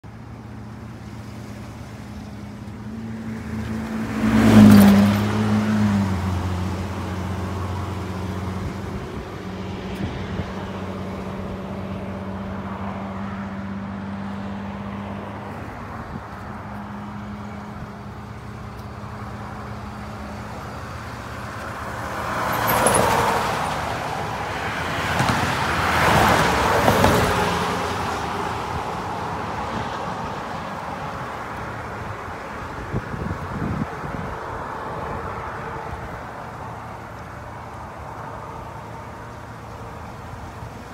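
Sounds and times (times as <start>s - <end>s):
vehicles passing by: 0.0s - 40.9s.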